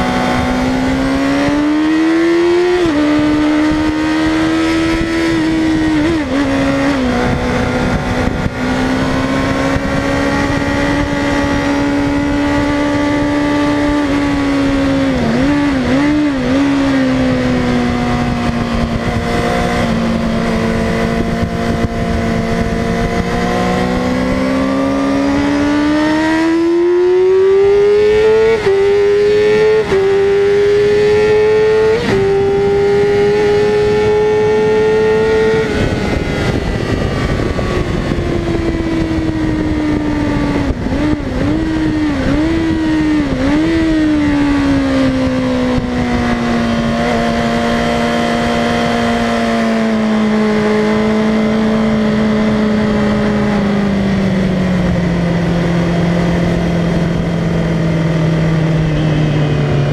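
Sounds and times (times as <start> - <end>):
motorcycle engine at speed: 0.0 - 59.9
wind rush: 0.0 - 59.9.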